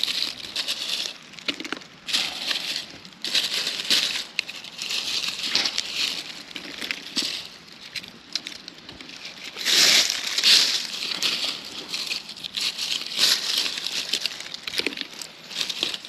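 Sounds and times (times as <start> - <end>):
rustling and crackling: 0.0 - 16.0.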